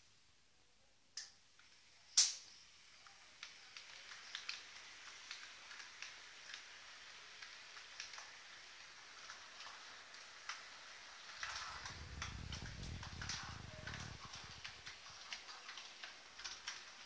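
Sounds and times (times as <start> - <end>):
model train running on track: 1.6 - 17.0.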